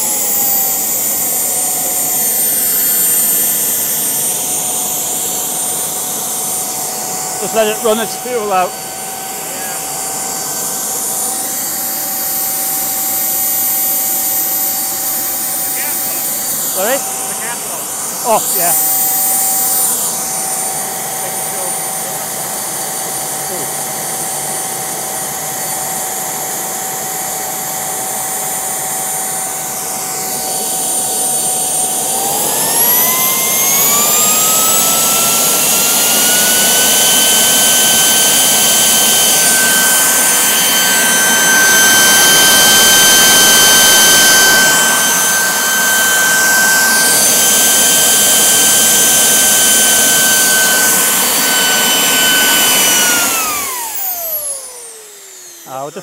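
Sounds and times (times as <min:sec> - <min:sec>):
rushing exhaust: 0:00.0 - 0:24.8, 0:29.2 - 0:56.0
gas turbine whine: 0:00.0 - 0:56.0.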